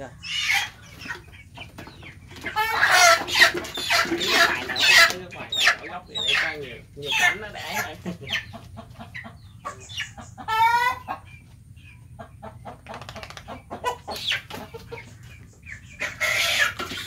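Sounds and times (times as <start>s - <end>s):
chickens clucking: 0.0s - 17.0s
chicken squawk: 0.1s - 11.5s, 12.1s - 17.0s.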